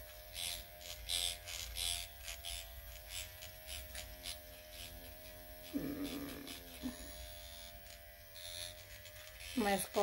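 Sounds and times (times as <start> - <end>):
electric pen motor buzz: 0.0 - 10.0.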